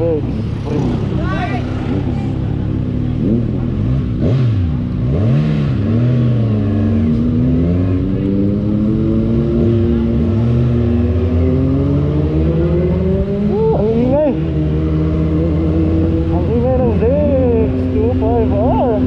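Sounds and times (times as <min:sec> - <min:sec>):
motorcycle engine accelerating: 0:00.0 - 0:19.0
motorcycle engine revving: 0:00.0 - 0:19.0.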